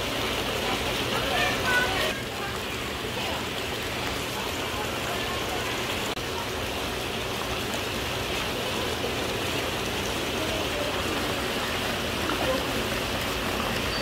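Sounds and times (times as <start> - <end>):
falling water hissing: 0.0 - 14.0.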